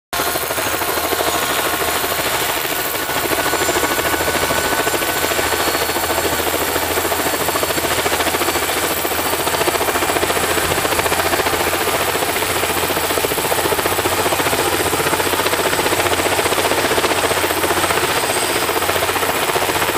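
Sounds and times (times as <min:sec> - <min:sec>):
helicopter rotor blade chop: 0:00.1 - 0:19.9.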